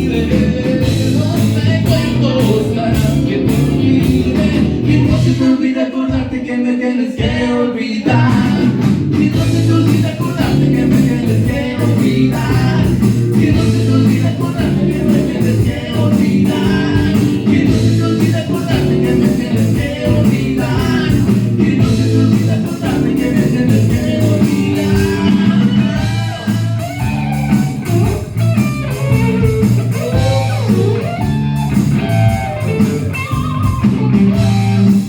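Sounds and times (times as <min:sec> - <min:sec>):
rock band playing live: 0:00.0 - 0:06.5, 0:07.2 - 0:35.0
person singing: 0:00.0 - 0:27.5, 0:30.0 - 0:31.0.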